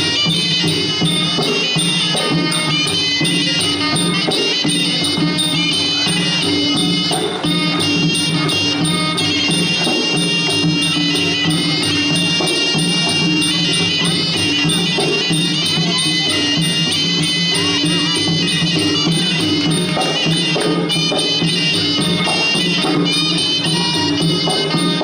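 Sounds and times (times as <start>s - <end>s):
steady drumming: 0.0s - 25.0s.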